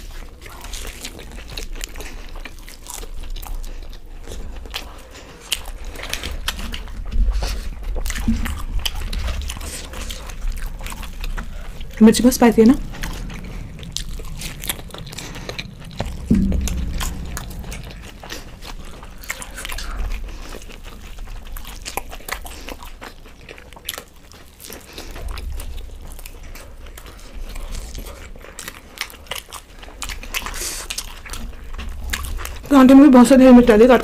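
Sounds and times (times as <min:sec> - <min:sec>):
people chewing with mouth clicks: 0:00.0 - 0:34.0.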